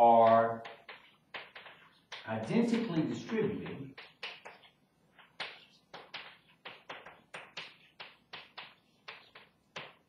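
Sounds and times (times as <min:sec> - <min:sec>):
chalk tapping and scraping: 0:00.2 - 0:10.0.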